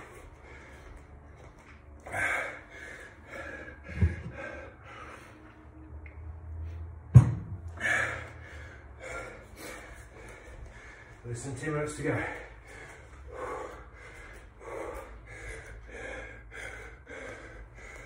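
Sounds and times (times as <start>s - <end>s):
man breathing hard: 0.0s - 5.8s, 7.6s - 18.0s.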